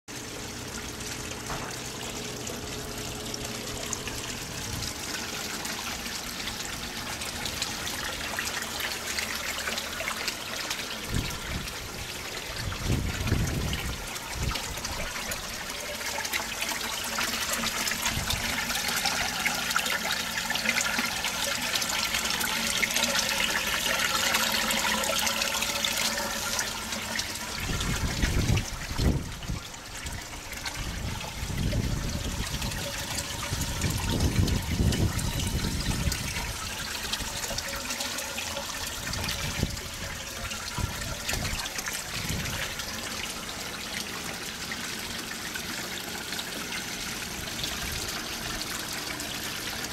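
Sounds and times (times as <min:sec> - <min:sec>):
water pouring and splashing: 0:00.1 - 0:49.9.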